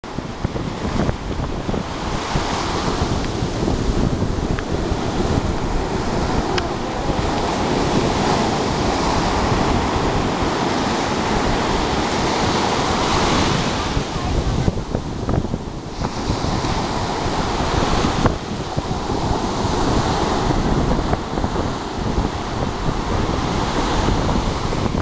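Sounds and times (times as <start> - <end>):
wind buffeting microphone: 0.0 - 25.0
sea waves breaking on beach: 0.1 - 25.0.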